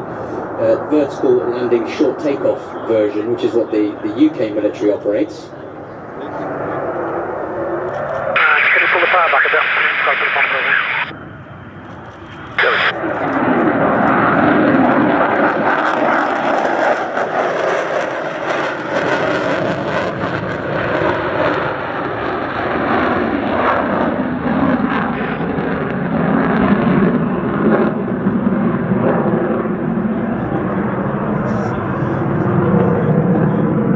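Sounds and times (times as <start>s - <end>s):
jet engine roar on low approach: 0.0s - 33.9s.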